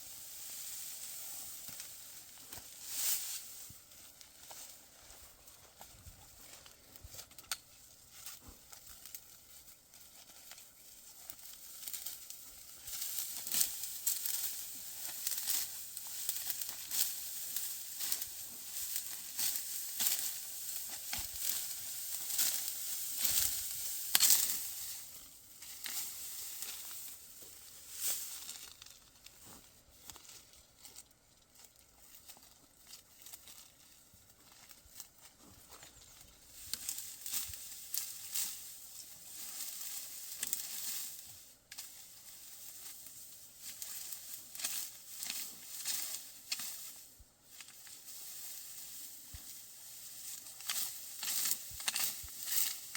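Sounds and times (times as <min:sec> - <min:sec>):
dry wheat stalks crackling: 0:00.0 - 0:52.9.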